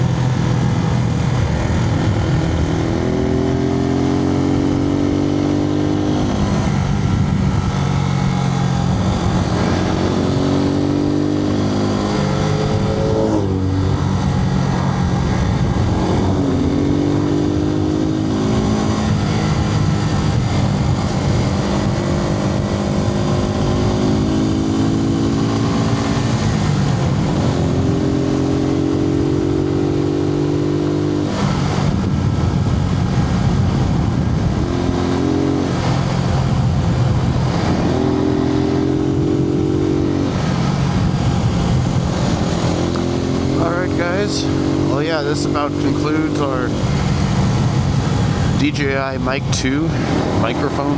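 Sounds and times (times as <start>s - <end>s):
motorcycle engine running: 0.0s - 50.9s
wind noise: 0.0s - 50.9s.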